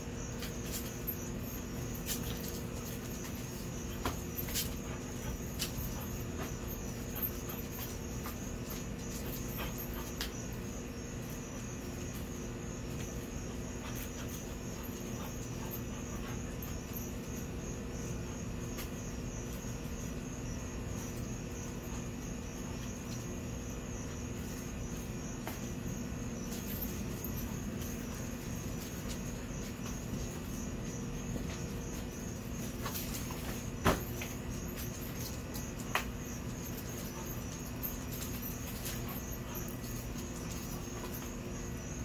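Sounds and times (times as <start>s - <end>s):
constant low hum: 0.0s - 42.0s
crickets chirping: 0.0s - 42.0s.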